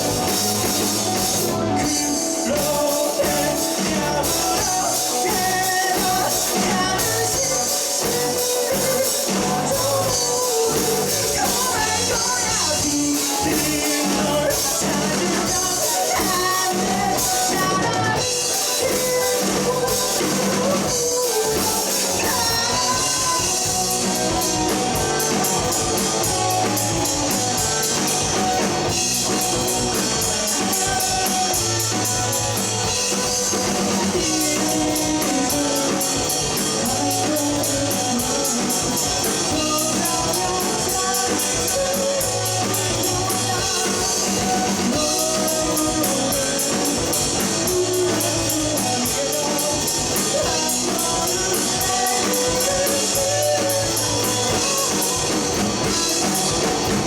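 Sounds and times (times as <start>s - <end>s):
bass guitar: 0.0s - 57.0s
drum kit: 0.0s - 57.0s
electric guitars: 0.0s - 57.0s
person singing: 0.0s - 57.0s.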